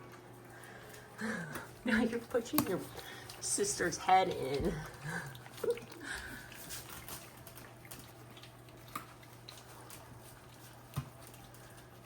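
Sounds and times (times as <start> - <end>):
low steady hum: 0.0 - 12.0
puppies licking clicks: 0.0 - 12.0.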